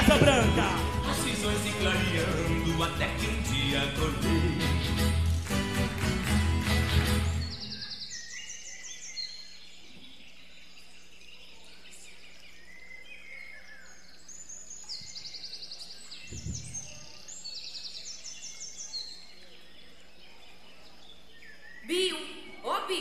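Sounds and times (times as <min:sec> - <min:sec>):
birds chirping: 0:00.0 - 0:06.1, 0:06.8 - 0:23.0.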